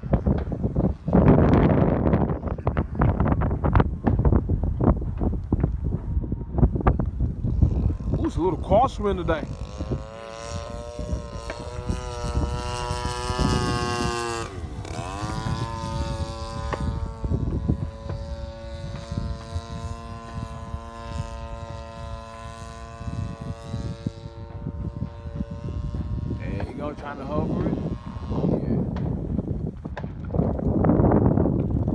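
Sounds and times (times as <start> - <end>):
model airplane engine droning: 0.0 - 31.9
wind buffeting microphone: 0.0 - 31.9.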